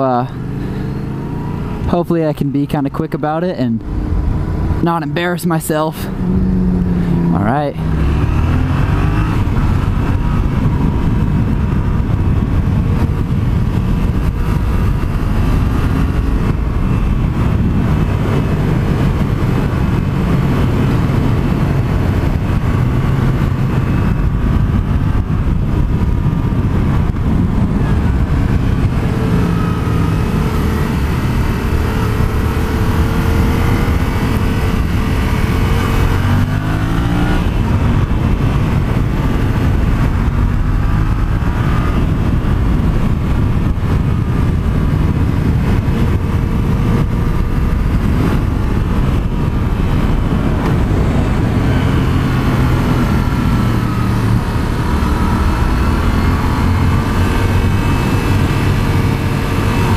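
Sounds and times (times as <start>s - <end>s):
motorcycle engine revving: 0.0s - 2.1s, 3.8s - 5.2s, 5.8s - 59.9s
wind noise on microphone: 0.0s - 59.9s.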